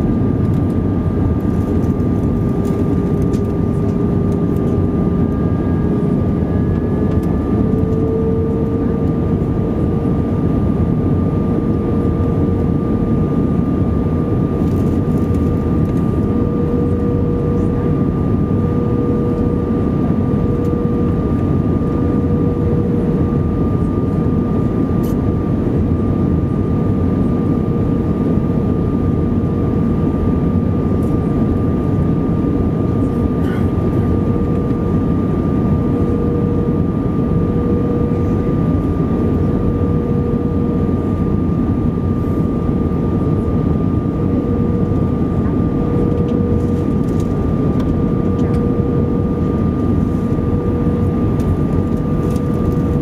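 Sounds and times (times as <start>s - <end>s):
aircraft cabin engine and airflow rush: 0.0s - 53.0s
constant whining tones: 0.0s - 53.0s.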